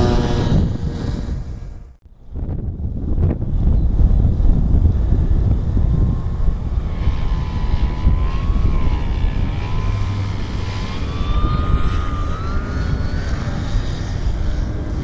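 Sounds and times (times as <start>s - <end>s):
model plane motor whine: 0.0s - 1.9s, 3.5s - 15.0s
wind rumble on microphone: 0.0s - 15.0s.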